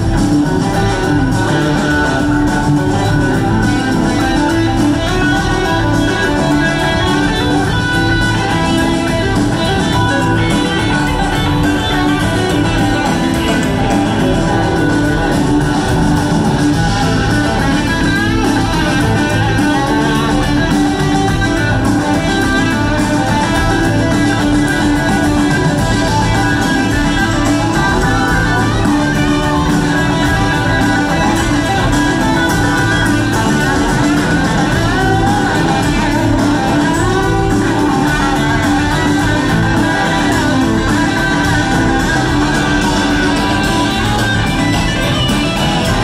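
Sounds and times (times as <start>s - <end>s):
electric guitar lead: 0.0s - 46.0s
live rock band playing: 0.0s - 46.0s.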